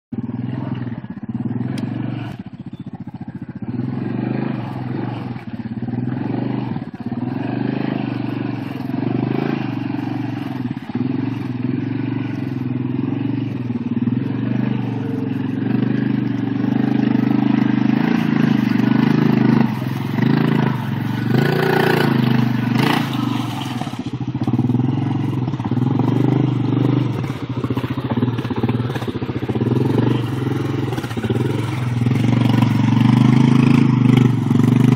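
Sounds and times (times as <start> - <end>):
atv engine running: 0.1 - 34.9
water sloshing around tyres: 0.4 - 34.9.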